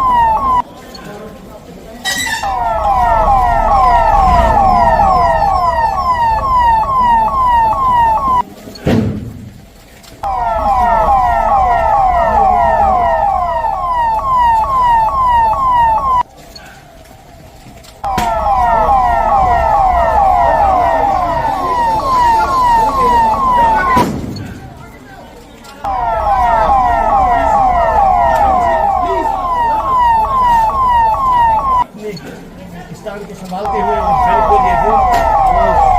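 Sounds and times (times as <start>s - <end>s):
electronic siren sweeping: 0.0s - 0.6s, 2.4s - 8.4s, 10.2s - 24.1s, 25.8s - 31.9s, 33.6s - 35.9s.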